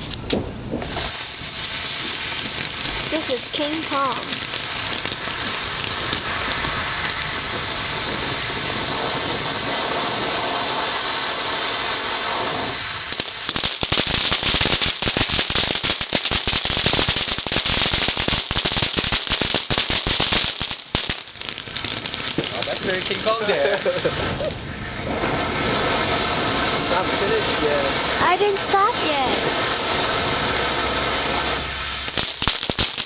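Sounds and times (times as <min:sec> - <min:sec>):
firework hissing and crackling: 0:00.0 - 0:33.0.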